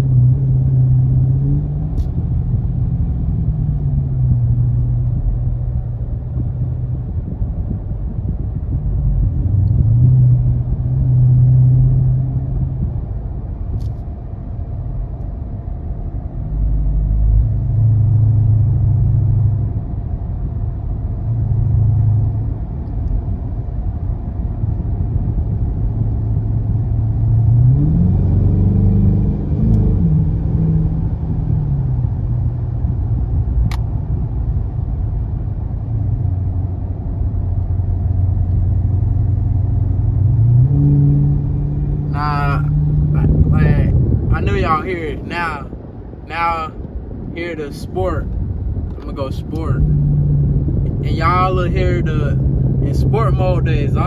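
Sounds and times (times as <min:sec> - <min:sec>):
car exhaust rumbling: 0:00.0 - 0:54.0.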